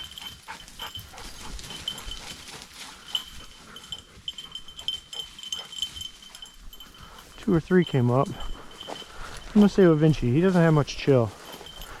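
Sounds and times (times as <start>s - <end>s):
footsteps: 0.0s - 12.0s
rustling brush: 0.0s - 12.0s
small bell tinkling: 0.0s - 12.0s.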